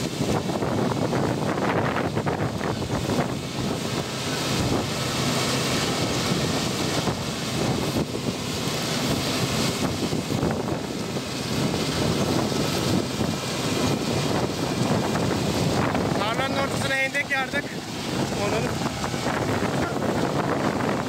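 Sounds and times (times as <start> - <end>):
combine harvester running: 0.0 - 21.0.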